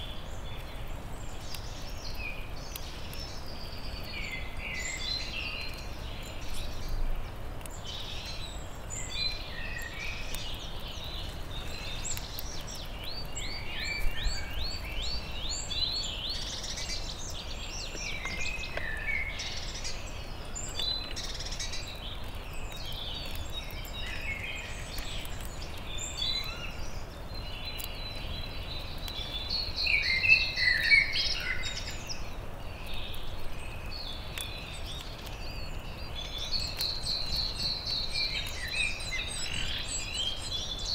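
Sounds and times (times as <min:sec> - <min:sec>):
low outdoor hiss: 0:00.0 - 0:40.9
songbirds singing and calling: 0:00.0 - 0:40.9.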